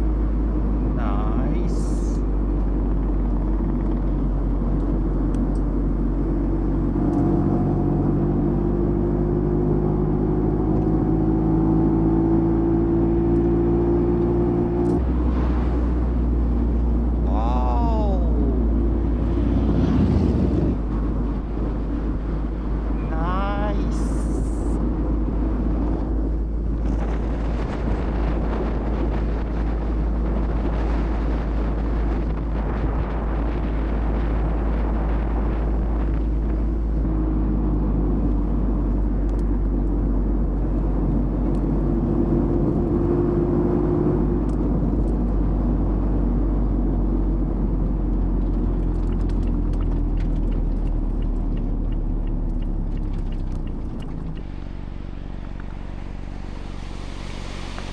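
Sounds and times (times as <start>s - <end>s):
car engine cruising: 0.0s - 57.9s
tyre and road rumble: 0.0s - 57.9s.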